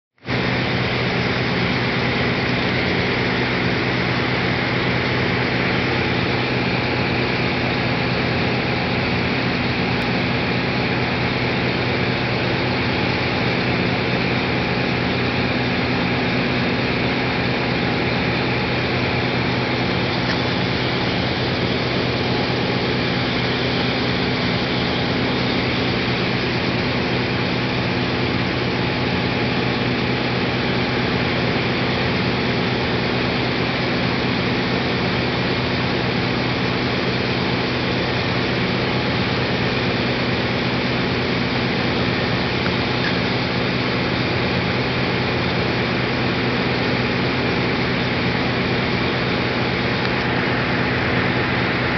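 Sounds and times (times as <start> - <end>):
machinery low hum: 0.3 - 51.9.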